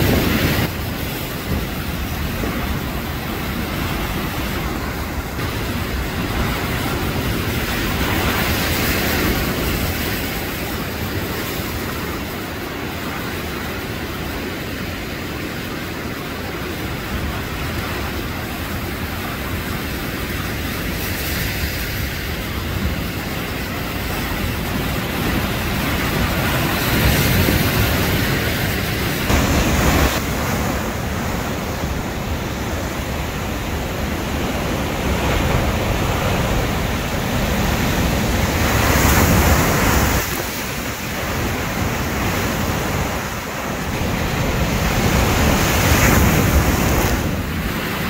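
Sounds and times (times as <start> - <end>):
heavy surf crashing on rocks: 0.0 - 48.0.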